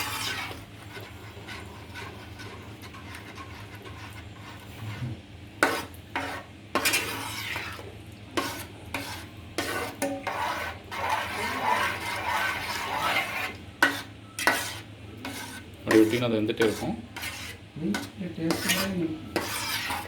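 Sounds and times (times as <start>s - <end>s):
spoon scraping thick pudding: 0.0s - 20.0s.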